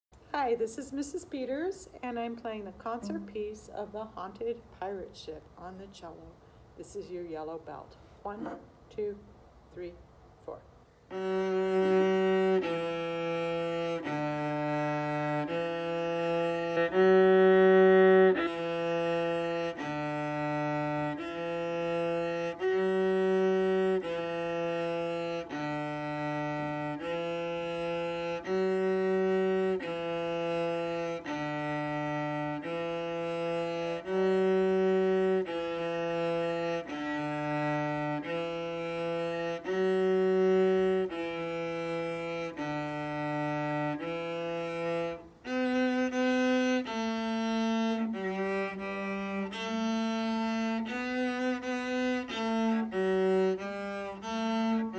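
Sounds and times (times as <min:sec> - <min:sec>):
solo cello bowed notes: 0:02.8 - 0:04.4, 0:11.1 - 0:54.9.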